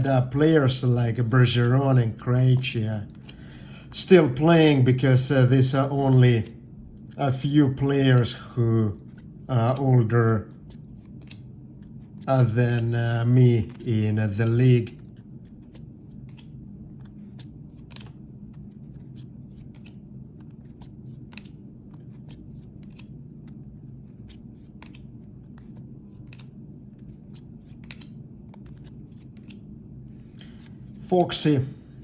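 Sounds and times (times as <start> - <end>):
steady low hum: 0.0 - 32.0
cards and wrappers rustling: 0.2 - 3.6, 5.6 - 32.0.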